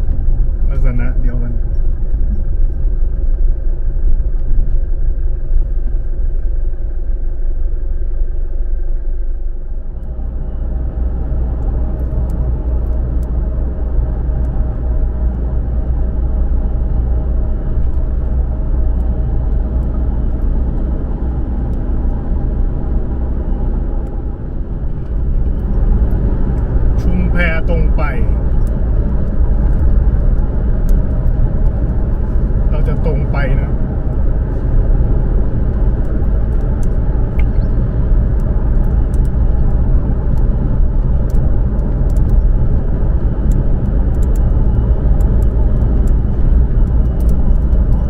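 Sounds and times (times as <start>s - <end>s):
car road noise and engine hum: 0.0s - 48.0s.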